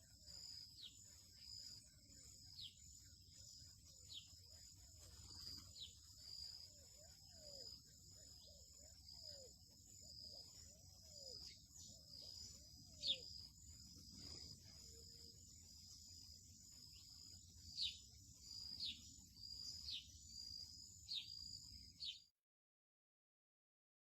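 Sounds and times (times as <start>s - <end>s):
faint insect chirring: 0.0s - 22.3s.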